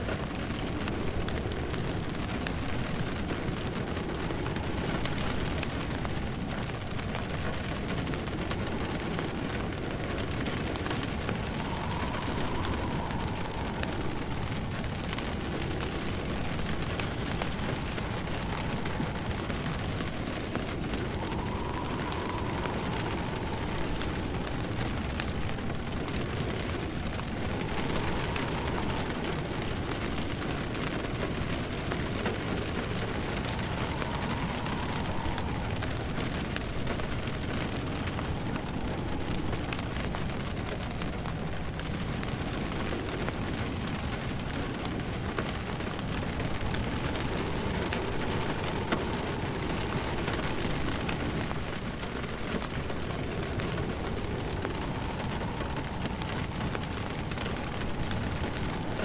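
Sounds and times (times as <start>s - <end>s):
rain pattering: 0.0s - 59.0s
wood fire crackling: 0.0s - 59.0s.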